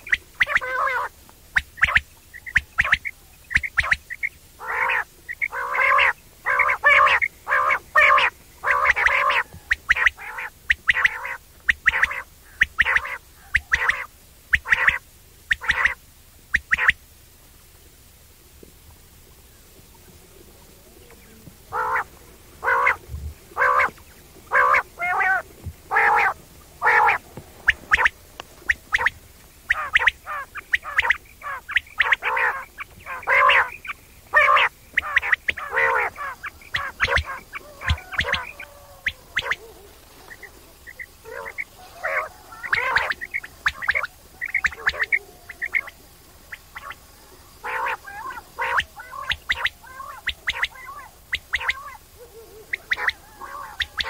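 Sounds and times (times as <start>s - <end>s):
quail calling: 0.0s - 17.0s, 20.6s - 54.0s.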